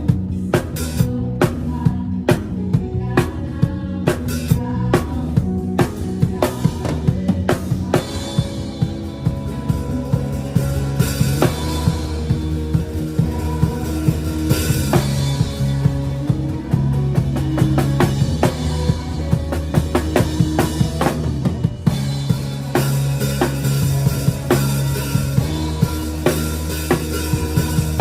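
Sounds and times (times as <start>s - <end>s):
acoustic drum kit: 0.0s - 28.0s
band playing live: 0.0s - 28.0s.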